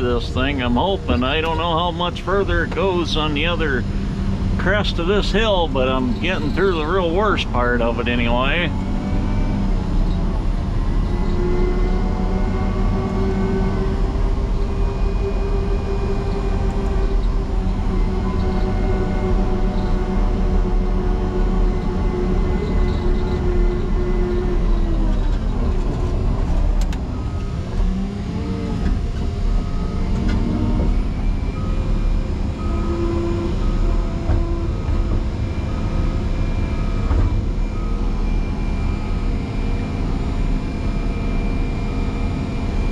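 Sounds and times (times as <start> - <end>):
diesel engine working under load: 0.0 - 42.9.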